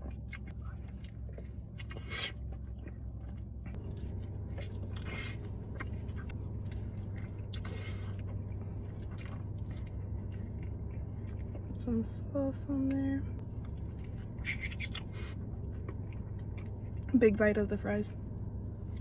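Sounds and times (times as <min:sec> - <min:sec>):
wet chewing close up: 0:00.0 - 0:11.8, 0:12.9 - 0:17.1
steady low hum: 0:00.0 - 0:19.0.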